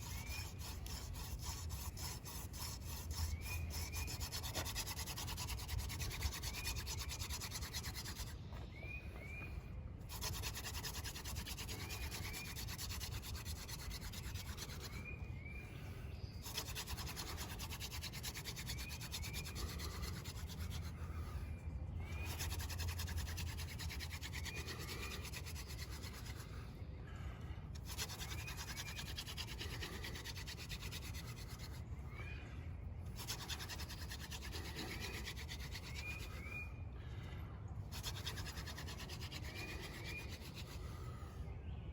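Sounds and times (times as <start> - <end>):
wooden spindle rubbing on fireboard: 0.0 - 8.6, 10.0 - 15.2, 16.4 - 21.4, 22.1 - 26.6, 27.8 - 31.8, 33.1 - 36.5, 37.9 - 40.9.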